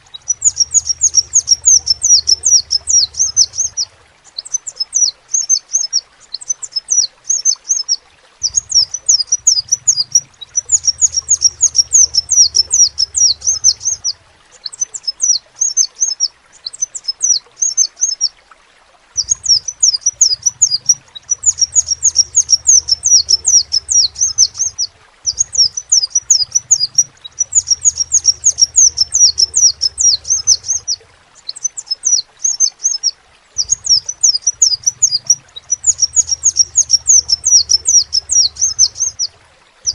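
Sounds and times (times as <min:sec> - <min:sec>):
bird chirping trills: 0:00.0 - 0:18.3, 0:19.2 - 0:39.9.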